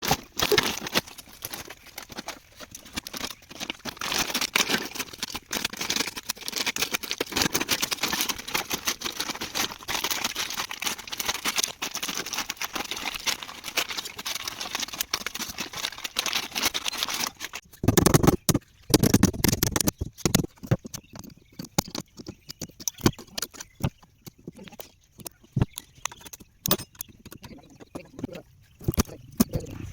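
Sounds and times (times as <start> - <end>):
packaging crackling and rustling: 0.0 - 29.9.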